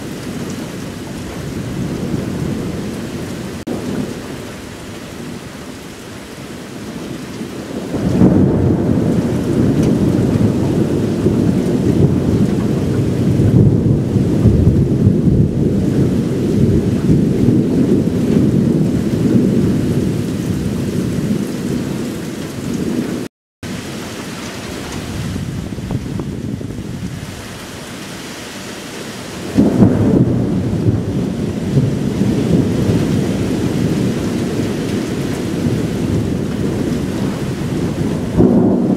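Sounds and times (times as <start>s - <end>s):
thunder rolling: 0.0s - 5.5s, 6.8s - 27.6s, 29.4s - 38.9s
steady rain: 0.0s - 38.9s.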